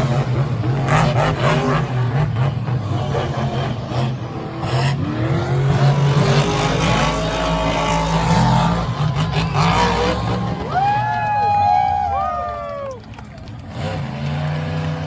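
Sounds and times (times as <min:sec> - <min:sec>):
monster truck engines revving: 0:00.0 - 0:15.0.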